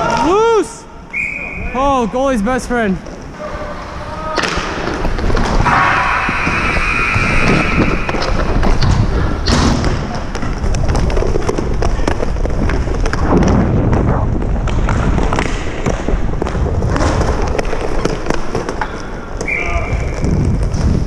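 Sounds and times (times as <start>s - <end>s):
low microphone rumble: 3.2s - 18.6s, 19.2s - 21.0s.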